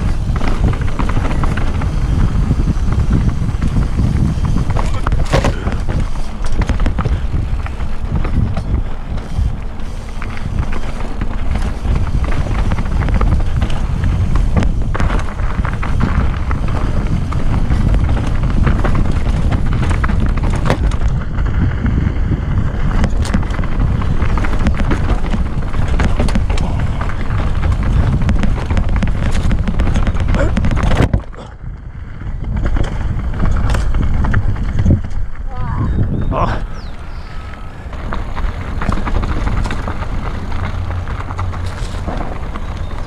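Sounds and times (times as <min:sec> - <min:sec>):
bike rattling and knocking: 0:00.0 - 0:43.0
tyres on dirt and rocks: 0:00.0 - 0:43.0
wind buffeting microphone: 0:00.0 - 0:43.0.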